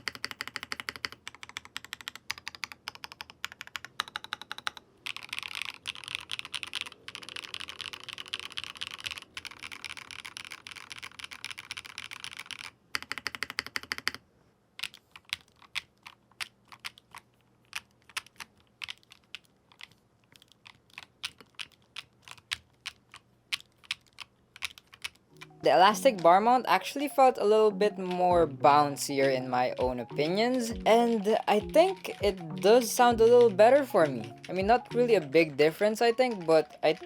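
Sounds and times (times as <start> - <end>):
mechanical keyboard typing: 0.0 - 14.2, 14.8 - 37.0.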